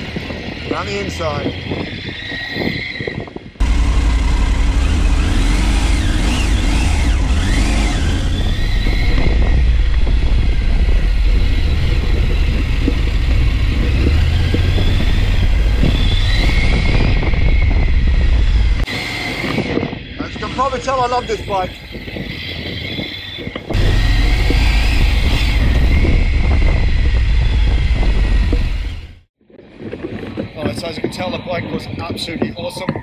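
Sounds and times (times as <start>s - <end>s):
motorcycle engine rumbling and revving: 0.0s - 33.0s.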